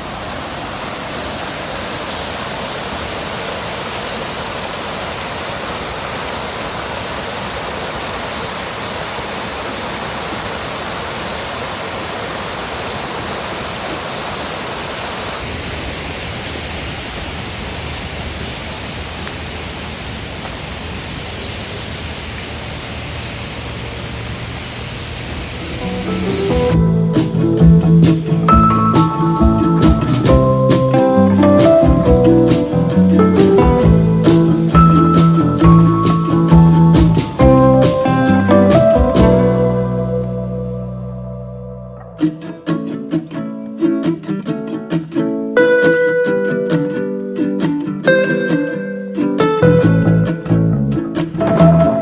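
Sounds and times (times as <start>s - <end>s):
stream running water: 0.0s - 52.0s.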